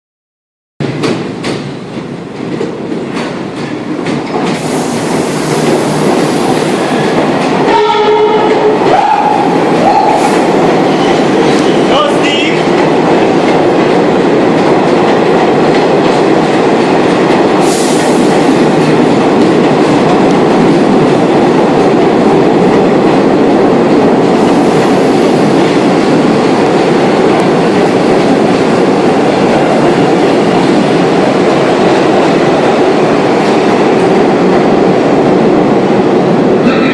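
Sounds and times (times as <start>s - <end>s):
subway train rumbling on rails: 0.8s - 36.9s.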